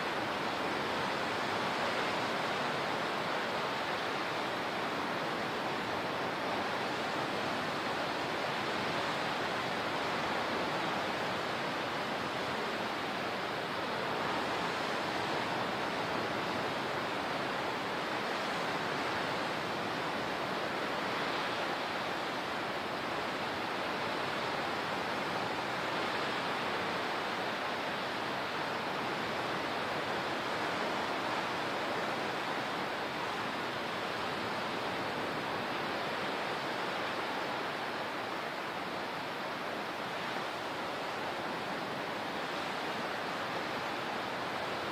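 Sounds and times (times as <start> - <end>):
water rushing: 0.0 - 44.9.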